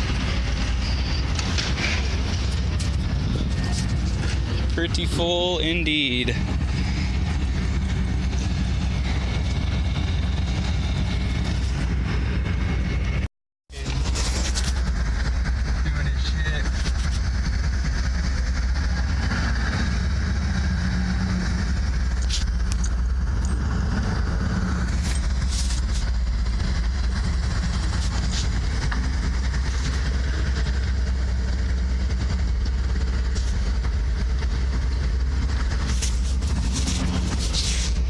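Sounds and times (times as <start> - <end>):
heavy engine idling: 0.0 - 38.0.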